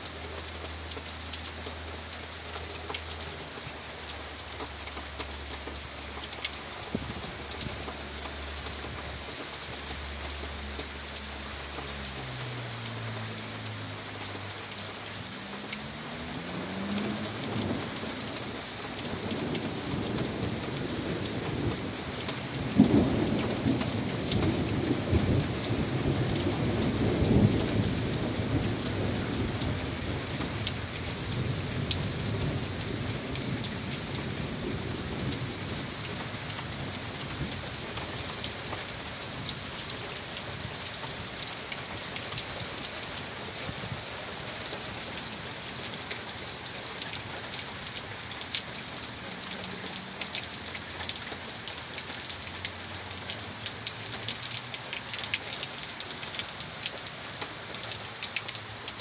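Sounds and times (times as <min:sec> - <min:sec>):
heavy rain hissing: 0:00.0 - 0:58.8
raindrop ticks: 0:00.1 - 0:59.0.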